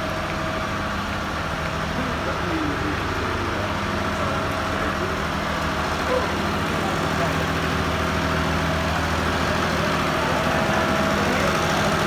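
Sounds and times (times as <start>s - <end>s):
faint voices: 1.8s - 12.0s.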